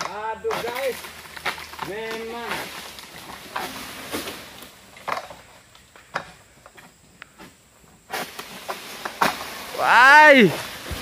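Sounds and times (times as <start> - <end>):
sickle cracking palm frond: 0.0 - 6.3, 8.1 - 11.0.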